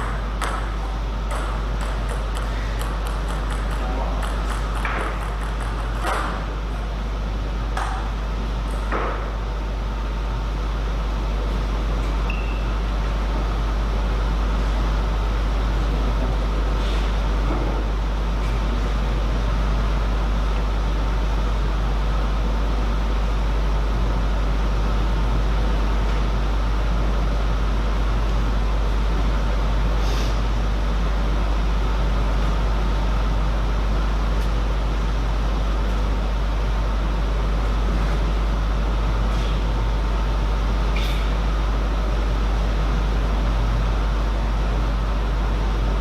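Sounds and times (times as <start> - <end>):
constant low hum: 0.0 - 46.0.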